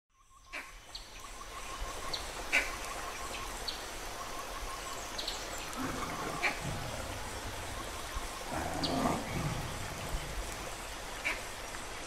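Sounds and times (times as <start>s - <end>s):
steady hiss: 0.8s - 12.0s.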